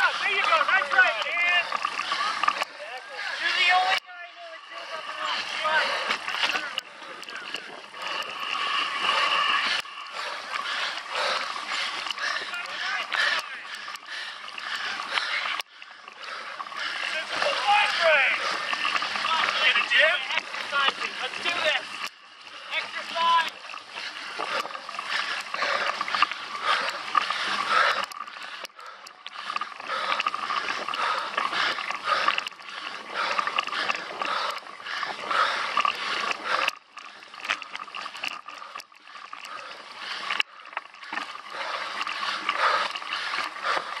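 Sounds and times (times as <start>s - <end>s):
bike tyres on rough ground: 0.0s - 38.7s.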